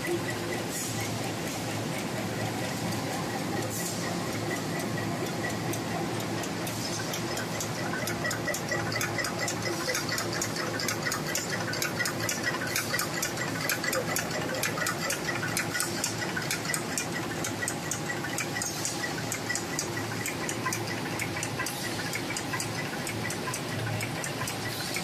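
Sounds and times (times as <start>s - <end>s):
machine humming and clicking: 0.0s - 25.0s.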